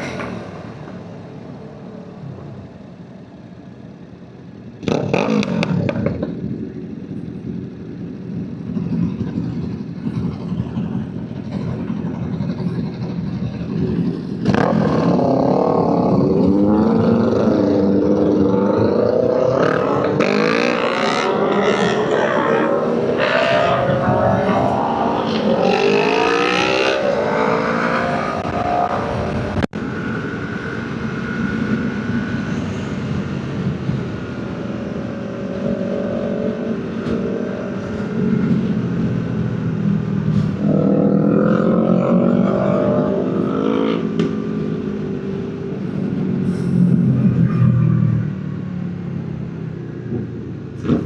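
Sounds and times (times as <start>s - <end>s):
road and wind rumble: 0.0s - 51.0s
vehicle engine accelerating: 0.0s - 51.0s.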